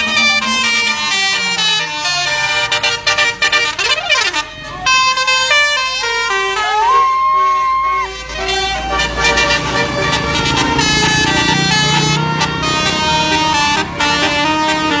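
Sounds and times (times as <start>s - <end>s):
musical air horns playing a tune: 0.0s - 15.0s.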